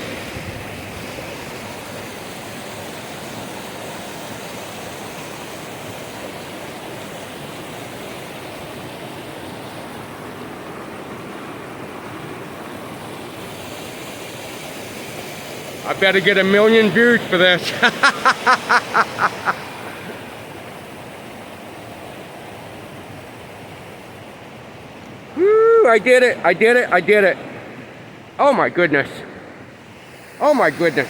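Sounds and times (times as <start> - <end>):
steady outdoor rushing noise: 0.0 - 31.0.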